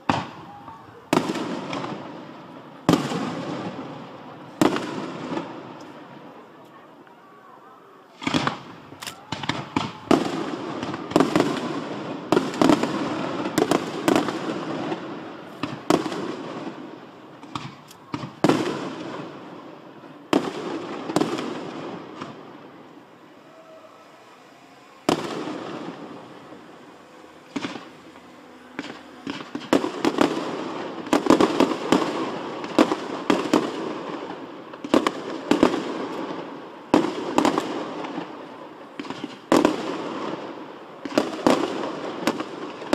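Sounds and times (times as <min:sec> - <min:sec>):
firework shells bursting: 0:08.2 - 0:42.9.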